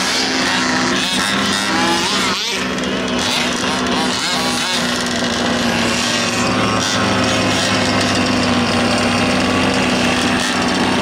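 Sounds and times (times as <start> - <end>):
small two-stroke engines running: 0.0 - 11.0.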